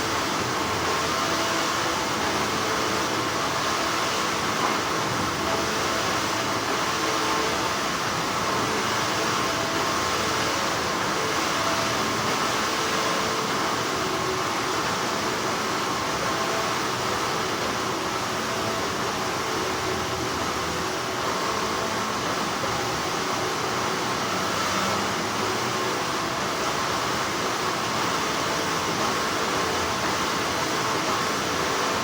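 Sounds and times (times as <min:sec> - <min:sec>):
factory machinery humming: 0:00.0 - 0:32.0
faint constant tones: 0:00.0 - 0:32.0.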